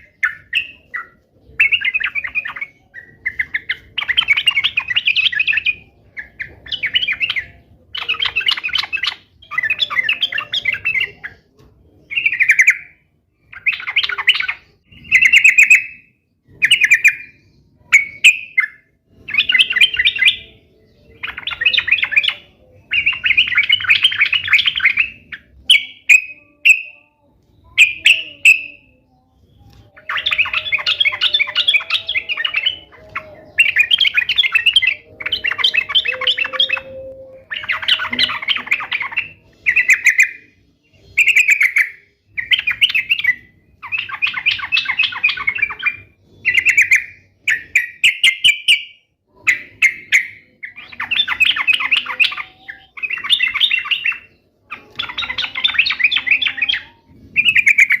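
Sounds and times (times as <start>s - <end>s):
bird singing bubbly phrases: 0.0s - 58.0s.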